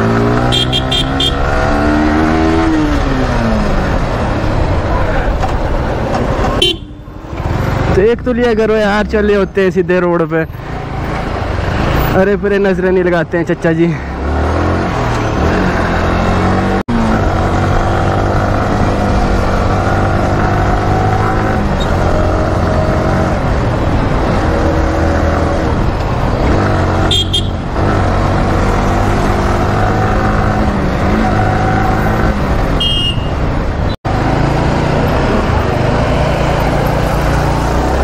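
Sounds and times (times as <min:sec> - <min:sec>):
motorcycle engine accelerating: 0:00.0 - 0:08.0, 0:14.2 - 0:32.8, 0:34.0 - 0:38.0
town traffic: 0:00.0 - 0:38.0.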